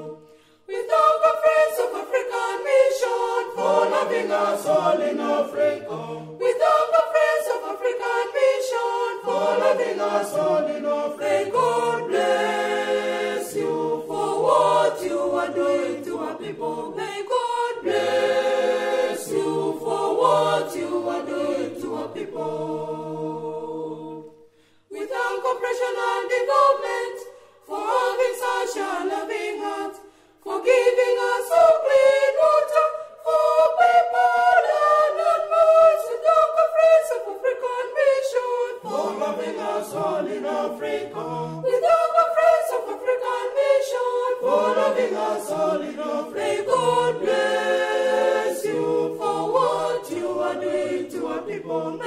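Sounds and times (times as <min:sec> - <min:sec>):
unaccompanied choir singing: 0:00.0 - 0:52.0.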